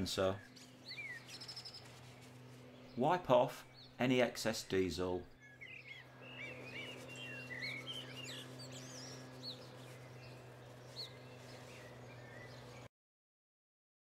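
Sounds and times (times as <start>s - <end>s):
small birds chirping: 0.0s - 12.9s
steady low hum: 0.0s - 12.9s.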